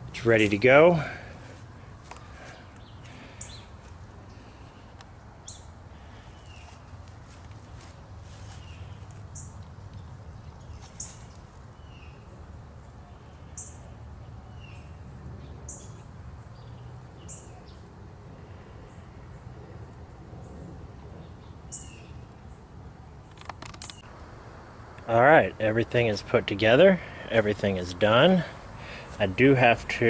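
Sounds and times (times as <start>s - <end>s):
small birds chirping: 0.0s - 19.6s, 20.4s - 24.1s, 26.0s - 30.0s.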